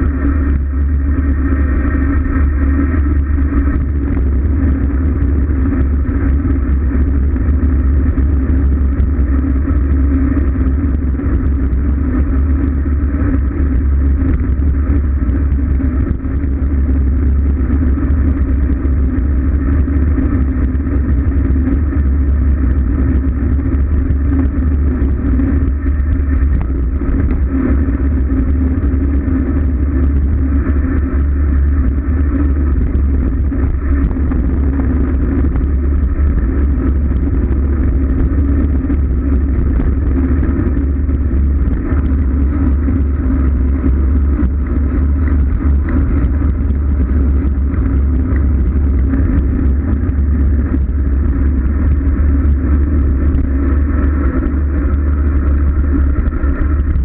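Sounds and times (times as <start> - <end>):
bike tyres rolling on asphalt: 0.0 - 57.0
wind buffeting microphone: 0.0 - 57.0.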